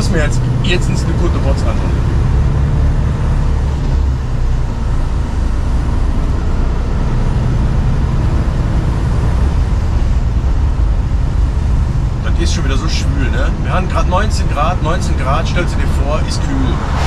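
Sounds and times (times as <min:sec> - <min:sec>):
diesel truck engine drone: 0:00.0 - 0:17.0
tyre and road noise: 0:00.0 - 0:17.0.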